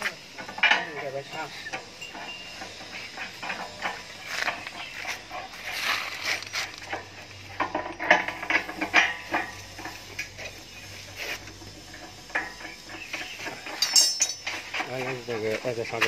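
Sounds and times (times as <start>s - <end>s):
metal clinks and knocks: 0.0s - 10.6s, 11.6s - 16.0s.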